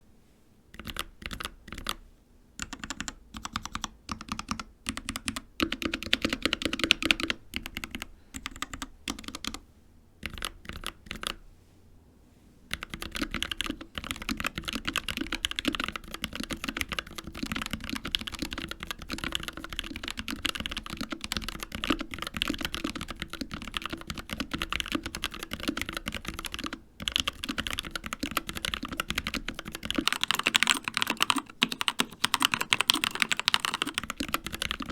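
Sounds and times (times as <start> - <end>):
typing on mechanical keyboard: 0.7 - 2.0, 2.6 - 9.6, 10.2 - 11.4, 12.7 - 34.9.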